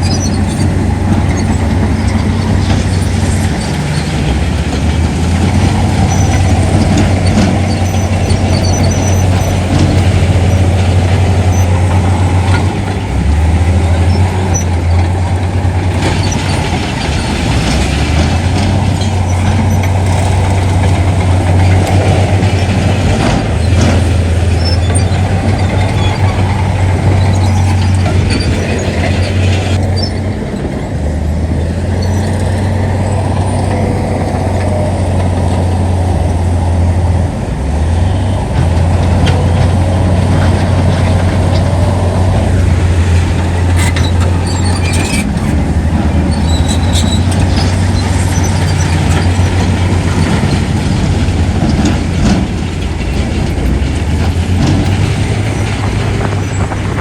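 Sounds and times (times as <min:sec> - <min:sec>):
diesel machinery engine rumble: 0:00.0 - 0:57.0.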